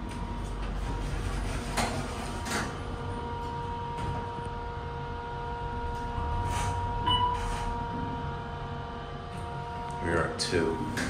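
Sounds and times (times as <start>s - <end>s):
elevator hum and rumble: 0.0s - 11.0s.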